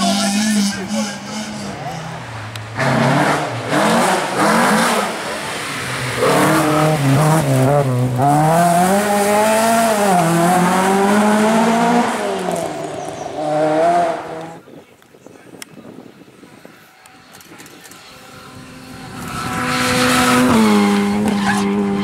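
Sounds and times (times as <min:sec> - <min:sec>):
rally car engine revving: 0:00.0 - 0:14.6, 0:17.0 - 0:22.0.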